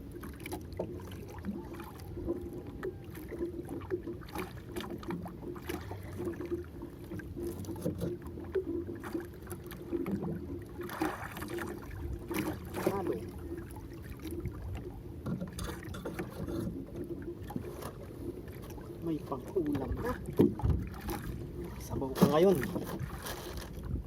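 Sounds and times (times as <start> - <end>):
water lapping against boat hull: 0.0 - 24.0.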